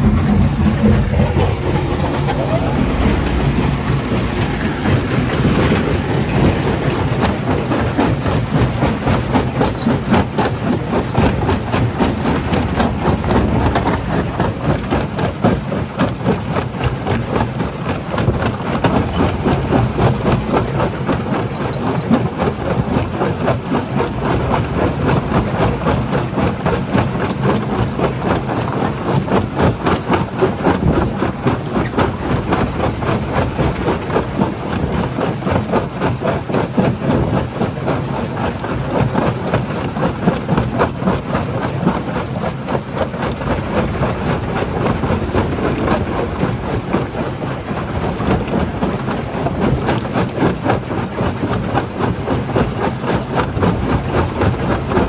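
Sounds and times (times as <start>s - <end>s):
heavy engine hum: 0.0s - 55.0s.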